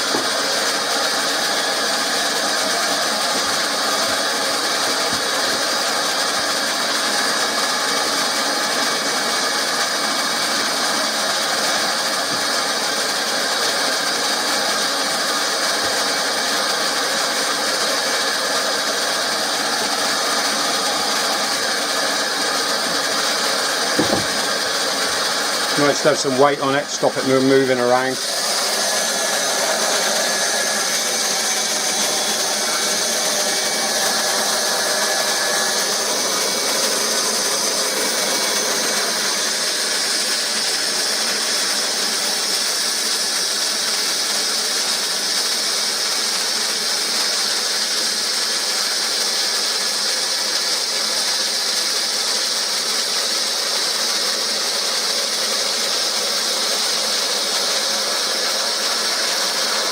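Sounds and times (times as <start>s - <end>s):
hot-air welding gun hissing: 0.0s - 59.9s.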